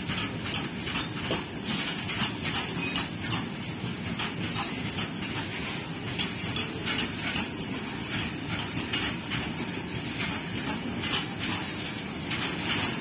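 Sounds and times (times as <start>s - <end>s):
steel wheels rumbling on rails: 0.0s - 13.0s
wheelsets clicking and clattering: 0.0s - 13.0s.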